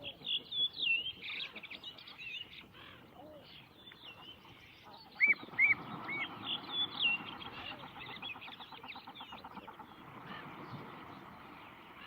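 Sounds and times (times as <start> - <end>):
birds chirping and trilling: 0.0 - 12.0.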